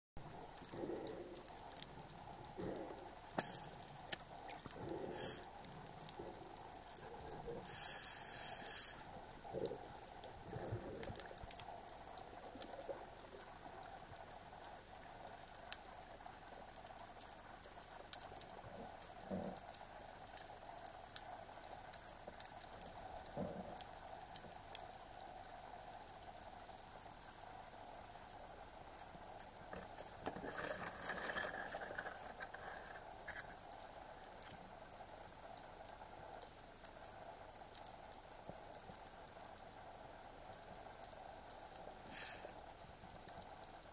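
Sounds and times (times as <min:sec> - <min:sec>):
underwater hiss with crackling clicks: 0:00.2 - 0:43.9.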